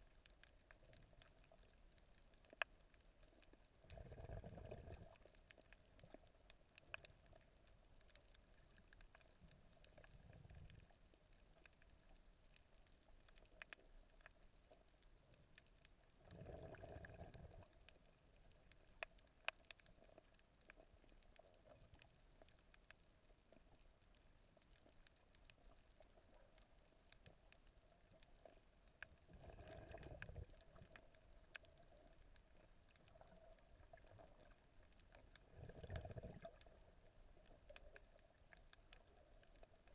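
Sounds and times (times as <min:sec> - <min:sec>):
underwater clicks and ticks: 0:00.0 - 0:39.9.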